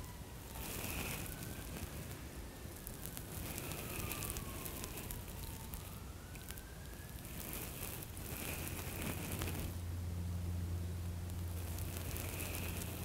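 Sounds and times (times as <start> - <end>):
faint wailing siren: 0.0 - 13.0
soft crackling rustles: 0.0 - 13.0.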